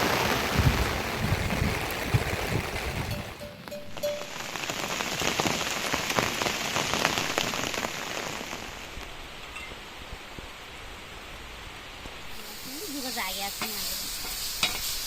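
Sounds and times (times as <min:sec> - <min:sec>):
rain drops ticking on a surface: 0:00.0 - 0:15.0.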